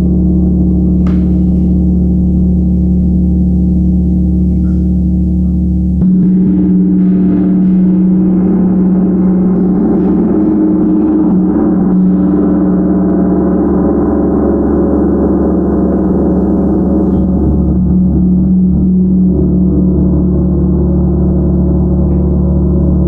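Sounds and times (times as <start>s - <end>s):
large gong ringing: 0.0s - 23.0s.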